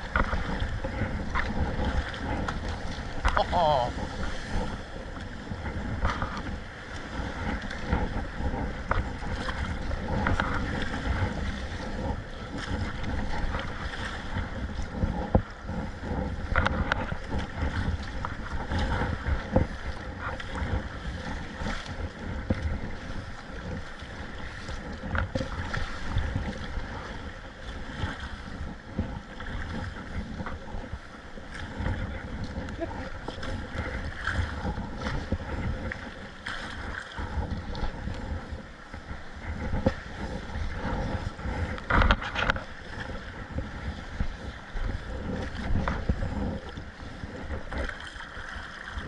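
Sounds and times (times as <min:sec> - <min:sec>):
sea water sloshing around kayak: 0:00.0 - 0:49.0
wind rumbling on microphone: 0:00.0 - 0:49.0.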